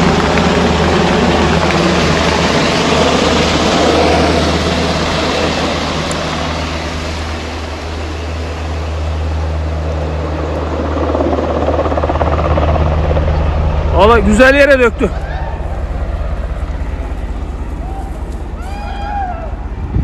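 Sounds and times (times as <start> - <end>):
helicopter rotor drone: 0.0 - 20.0.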